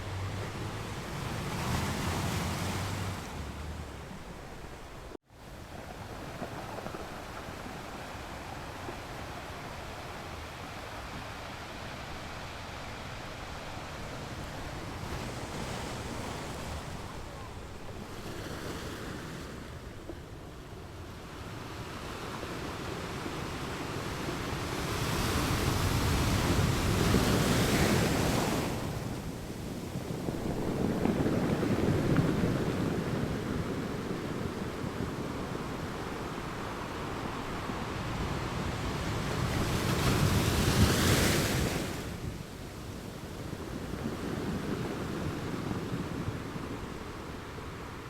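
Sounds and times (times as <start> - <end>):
ocean waves washing onto beach: 0.0 - 48.0.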